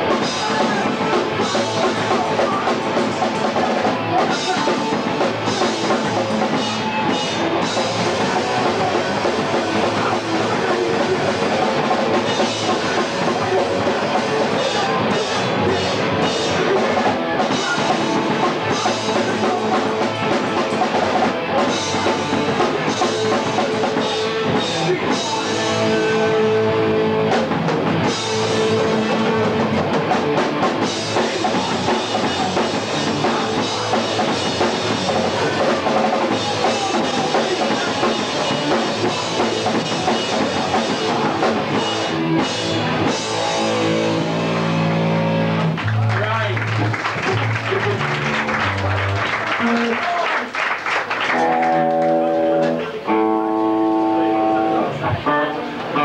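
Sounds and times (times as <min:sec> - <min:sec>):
punk band playing live: 0:00.0 - 0:56.0.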